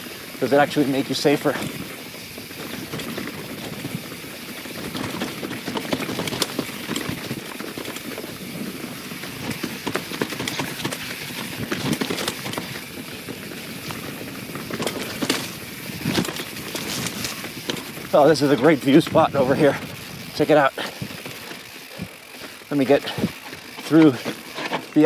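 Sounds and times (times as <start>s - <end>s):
bike knocking and rattling: 0.0s - 25.0s
bike tyres rolling over leaves: 0.0s - 25.0s.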